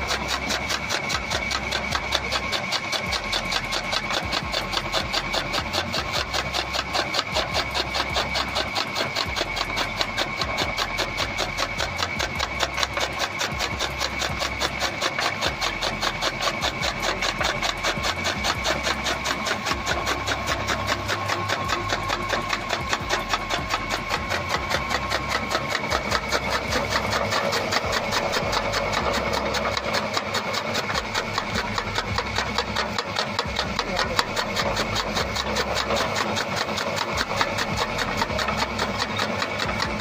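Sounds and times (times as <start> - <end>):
chaff cutter chopping clatter: 0.0 - 40.0
high motor whine: 0.0 - 40.0.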